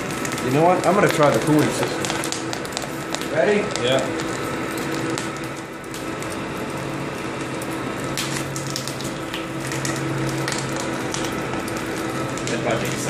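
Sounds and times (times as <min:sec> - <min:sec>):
extruder motor hum: 0:00.0 - 0:13.0
puffed corn crackling and crunching: 0:00.0 - 0:13.0.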